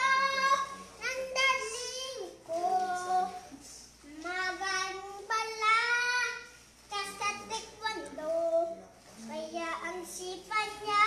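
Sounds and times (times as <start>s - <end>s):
boy singing: 0.0s - 11.0s.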